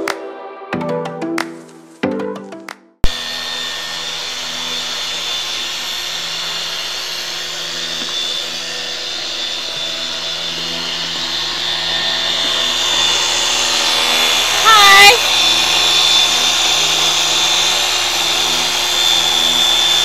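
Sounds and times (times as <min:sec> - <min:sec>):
electric sander whirring: 0:03.0 - 0:20.0.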